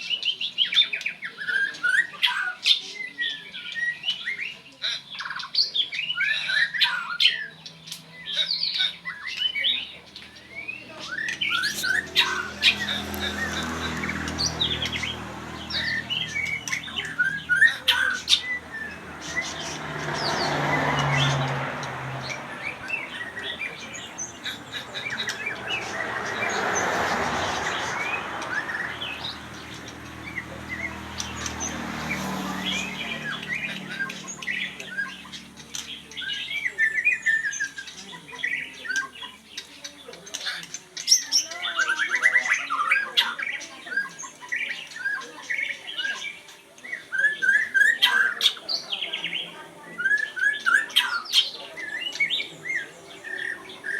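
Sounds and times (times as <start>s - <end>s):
birds chirping and squawking: 0.0s - 53.9s.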